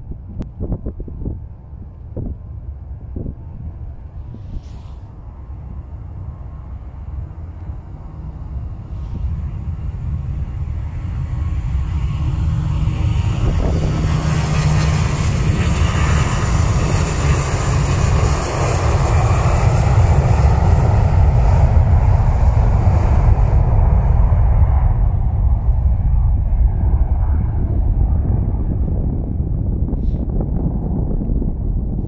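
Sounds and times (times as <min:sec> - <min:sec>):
jet engines deep rumble: 0:00.0 - 0:32.0.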